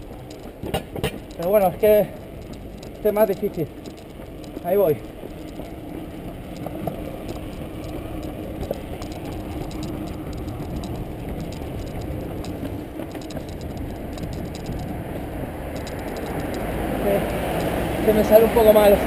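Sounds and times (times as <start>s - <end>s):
bicycle rolling over paving: 0.0s - 19.0s
light rattling ticks: 0.0s - 19.0s.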